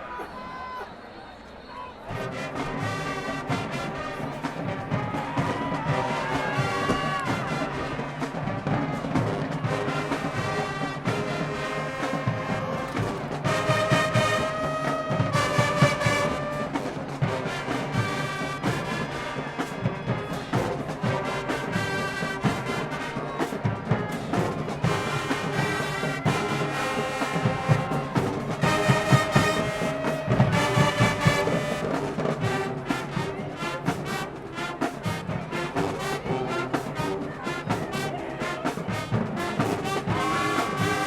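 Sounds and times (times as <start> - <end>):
brass section playing: 2.1 - 41.0
drumline hits: 2.1 - 41.0.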